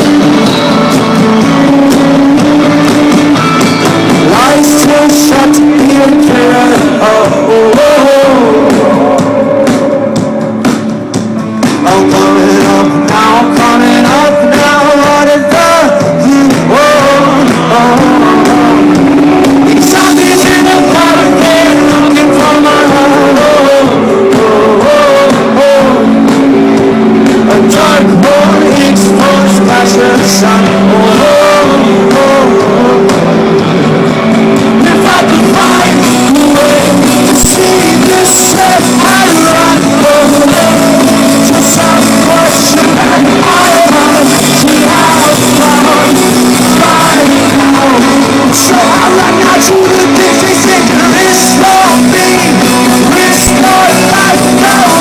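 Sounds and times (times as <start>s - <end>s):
lead singer singing: 0.0s - 55.0s
rock band playing live: 0.0s - 55.0s.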